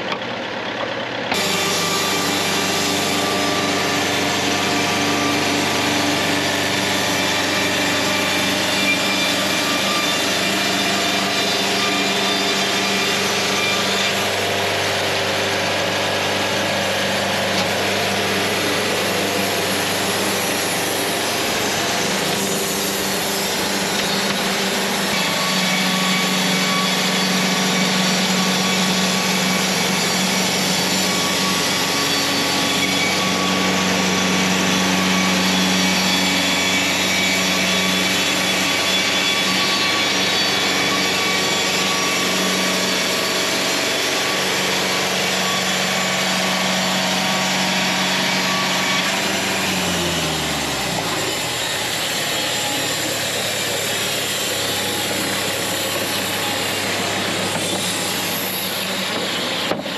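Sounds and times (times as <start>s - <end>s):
bandsaw mill engine running: 0.0s - 59.9s.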